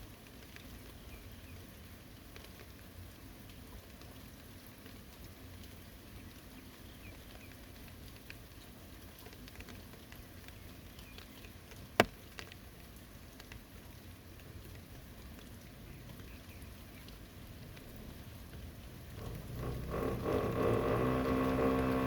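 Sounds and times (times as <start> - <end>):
rain pattering: 0.0 - 22.0
faint drips: 0.2 - 22.0.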